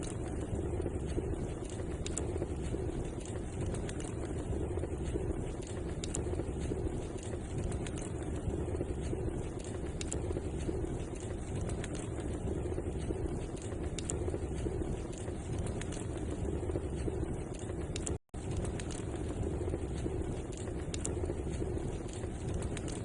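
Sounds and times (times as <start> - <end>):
low rush of burning: 0.0 - 23.0
sharp pops and snaps of fire: 0.0 - 23.0
wood fire crackling: 0.0 - 23.0.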